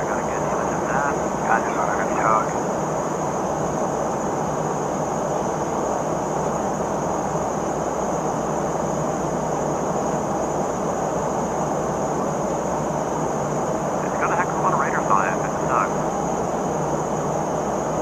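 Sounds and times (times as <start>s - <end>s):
aircraft cabin drone: 0.0s - 18.0s.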